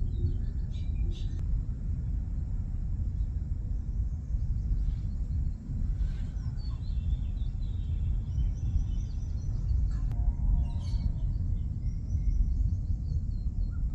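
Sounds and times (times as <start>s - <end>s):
wind noise on microphone: 0.0s - 13.9s.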